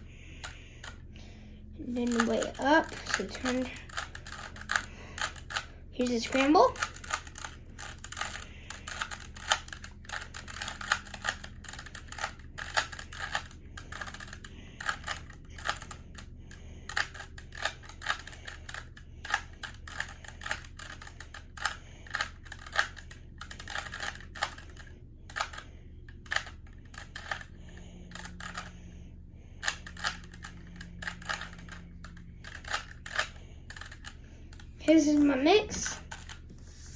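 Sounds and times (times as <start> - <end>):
puzzle cube clicking: 2.0 - 28.7, 29.6 - 34.7, 35.8 - 36.5.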